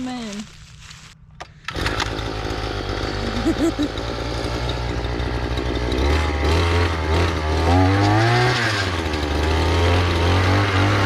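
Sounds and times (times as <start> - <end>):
engine running: 0.7 - 11.0.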